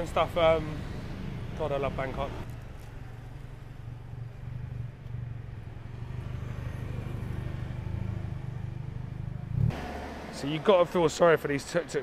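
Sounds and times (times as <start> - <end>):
street traffic rumble: 0.0 - 12.0
vehicle engines running: 0.0 - 12.0.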